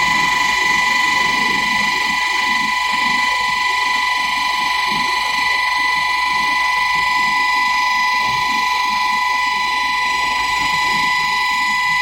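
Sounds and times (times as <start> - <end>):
disc grinder whining: 0.0 - 12.0.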